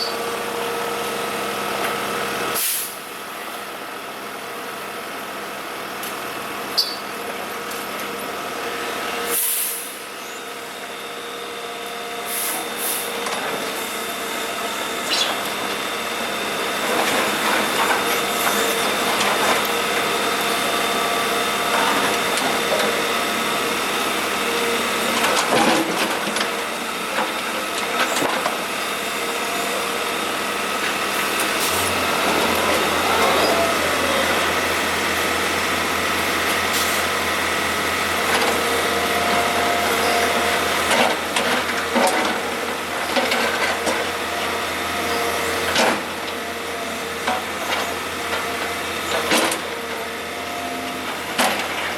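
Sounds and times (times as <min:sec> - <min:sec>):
excavator engine and hydraulics: 0:00.0 - 0:51.9.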